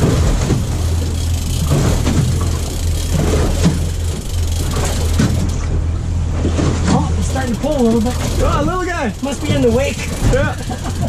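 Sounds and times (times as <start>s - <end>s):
boat motor humming: 0.0s - 11.0s
choppy water: 0.0s - 11.0s.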